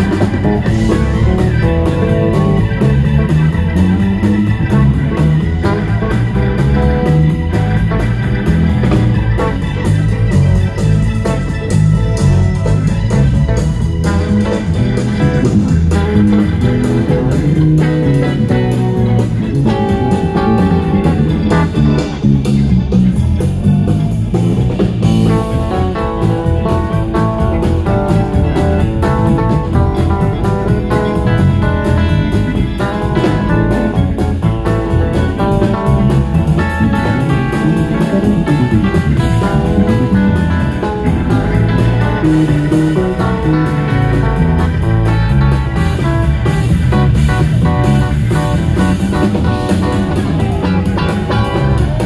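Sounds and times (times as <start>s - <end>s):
drum kit: 0.0s - 52.0s
electric bass: 0.0s - 52.0s
electric guitar: 0.0s - 52.0s.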